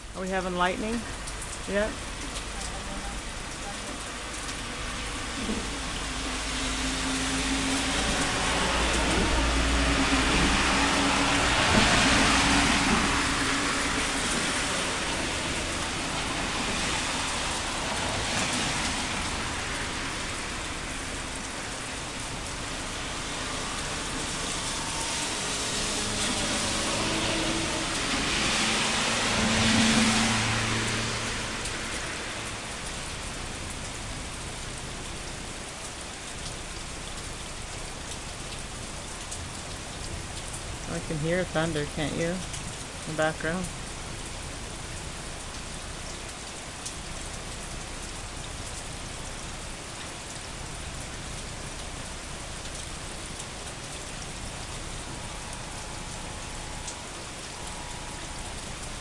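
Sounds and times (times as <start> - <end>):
steady rain falling: 0.0 - 59.0
vehicles hissing on wet road: 0.0 - 59.0.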